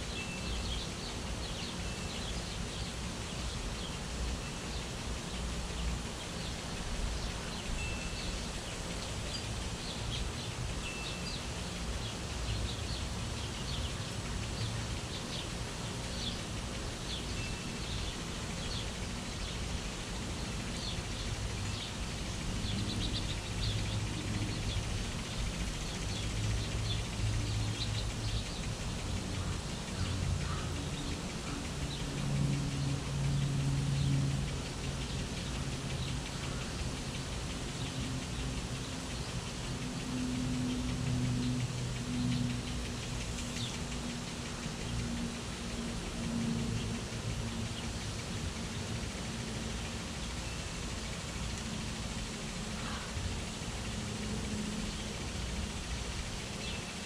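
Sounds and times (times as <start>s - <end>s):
small birds chirping: 0.0s - 57.0s
steady hiss: 0.0s - 57.0s.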